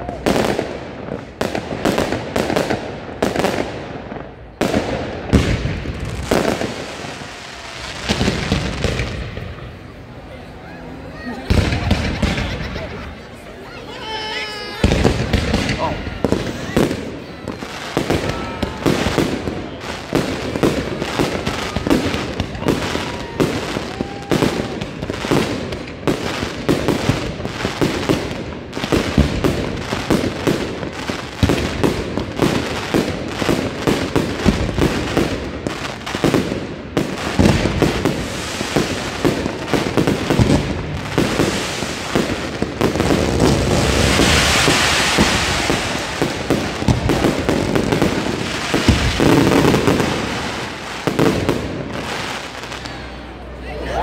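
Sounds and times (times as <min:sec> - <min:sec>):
fireworks bangs and pops: 0:00.0 - 0:53.2
fireworks hissing: 0:00.3 - 0:53.2.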